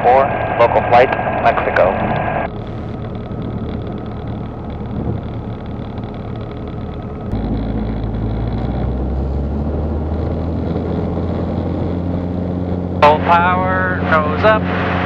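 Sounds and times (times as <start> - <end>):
aircraft engine and propeller: 0.0 - 15.0.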